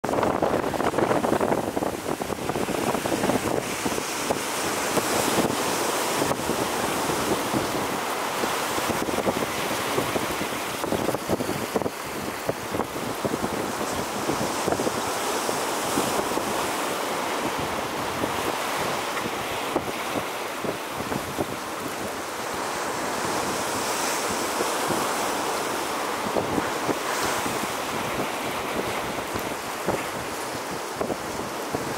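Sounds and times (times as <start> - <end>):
waves breaking on rocky shore: 0.0 - 31.9
wind buffeting microphone: 0.0 - 31.9.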